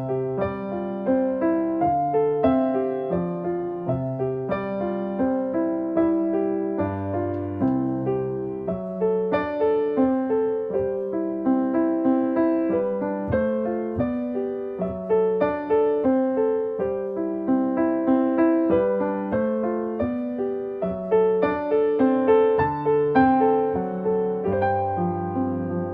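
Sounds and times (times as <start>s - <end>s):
piano playing single notes: 0.0s - 25.9s.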